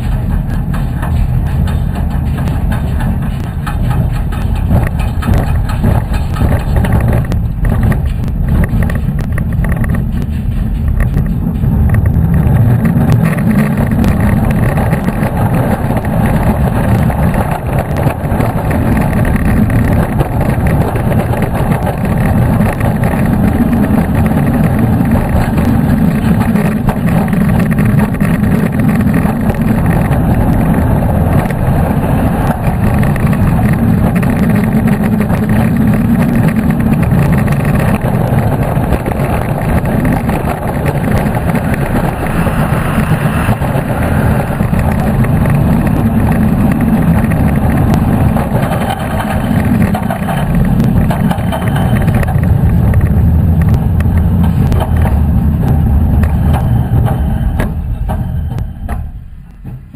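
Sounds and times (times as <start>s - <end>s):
roller coaster wheels rumbling: 0.0s - 59.9s
wind rushing over microphone: 0.0s - 59.9s.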